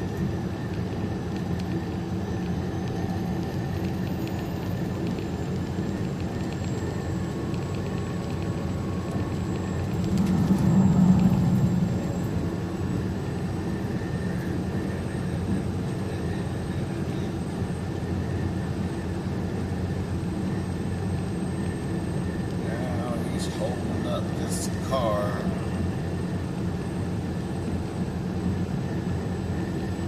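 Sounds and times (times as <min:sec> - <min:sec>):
truck engine and road drone: 0:00.0 - 0:30.0.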